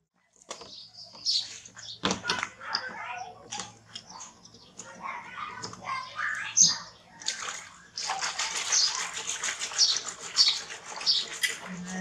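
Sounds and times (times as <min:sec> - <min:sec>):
water sloshing in plastic basin: 0:00.3 - 0:12.0.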